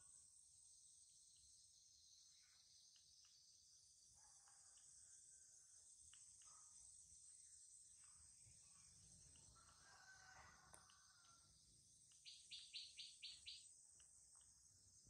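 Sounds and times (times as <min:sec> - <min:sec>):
quick insect chirps: 0:00.3 - 0:15.0.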